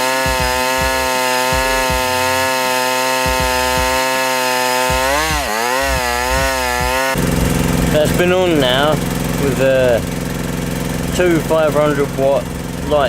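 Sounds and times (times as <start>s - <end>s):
petrol generator engine running: 0.0s - 13.0s.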